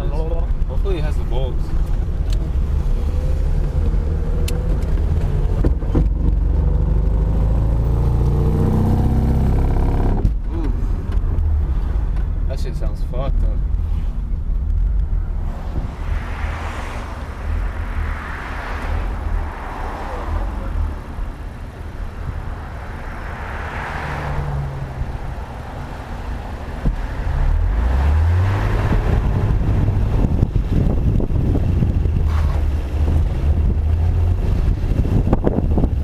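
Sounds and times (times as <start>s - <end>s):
car drivetrain rumble: 0.0s - 36.0s
road noise: 0.0s - 36.0s.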